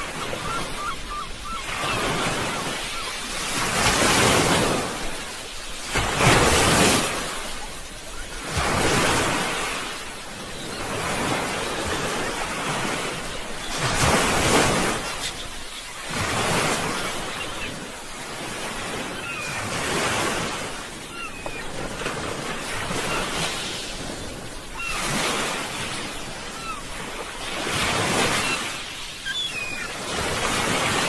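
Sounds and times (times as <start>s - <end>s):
sea waves washing onto shore: 0.0s - 31.0s.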